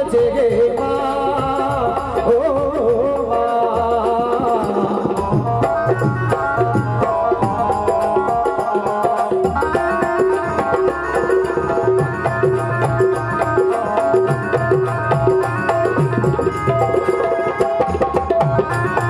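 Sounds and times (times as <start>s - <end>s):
fast hand-drum rhythm: 0.0s - 19.0s
keyboard melody: 0.0s - 19.0s.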